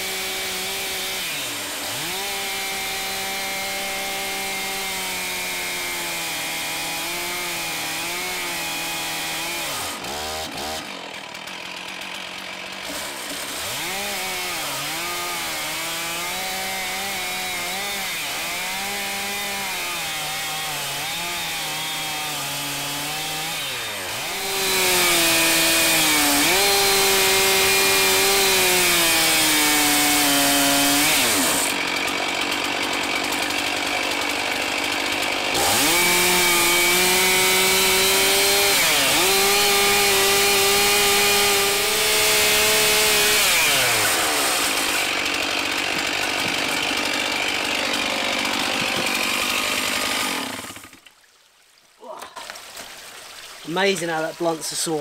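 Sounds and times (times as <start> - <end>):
chainsaw cutting timber: 0.0 - 51.2, 53.6 - 55.0.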